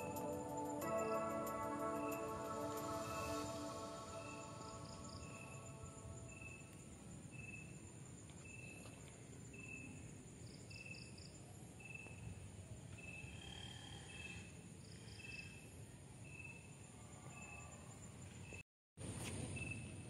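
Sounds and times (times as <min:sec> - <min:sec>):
insects trilling and chirping: 0:00.0 - 0:18.6.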